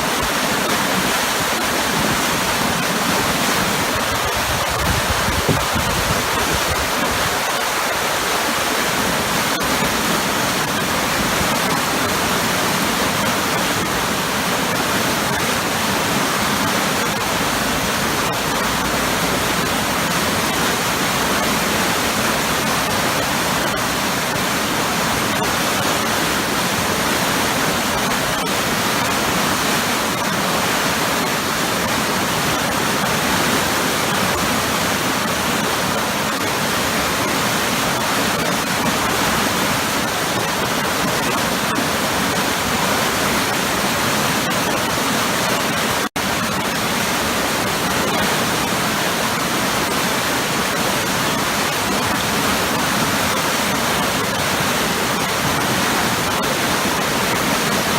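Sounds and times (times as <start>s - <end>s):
waterfall crashing into pool: 0.0s - 57.9s.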